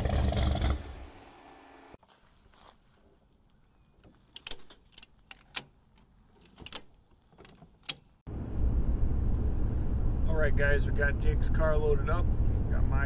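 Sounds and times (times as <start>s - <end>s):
vehicle road and engine rumble: 0.0s - 2.0s, 4.1s - 13.0s.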